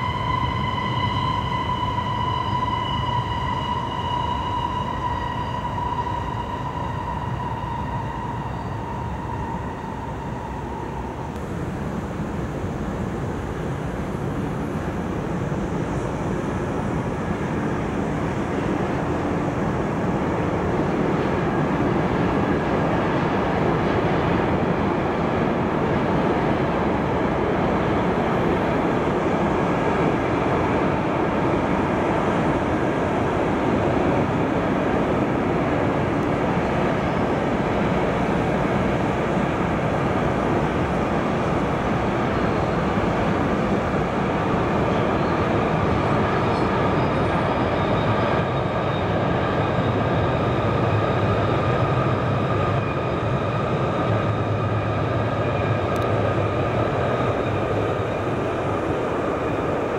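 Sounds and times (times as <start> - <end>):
electric train hum: 0.0 - 59.9
freight train rumbling and rattling: 0.0 - 59.9.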